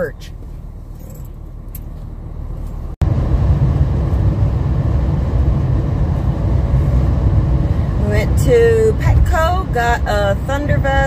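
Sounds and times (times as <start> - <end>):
car road and engine noise: 0.0 - 11.0
low cabin hum: 0.0 - 11.0.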